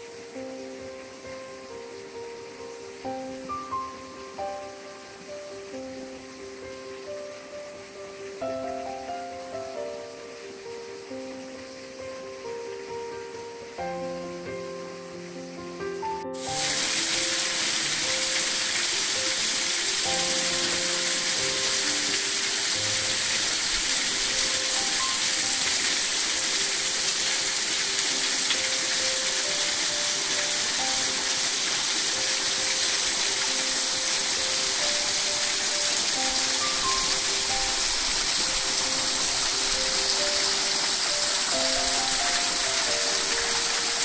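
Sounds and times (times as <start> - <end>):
quiet background music: 0.0 - 44.0
waterfall rushing: 0.0 - 44.0.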